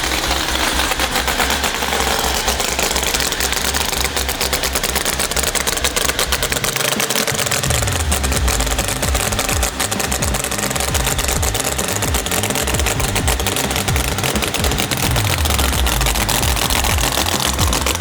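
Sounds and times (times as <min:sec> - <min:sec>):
car engine idling choppy: 0:00.0 - 0:18.0.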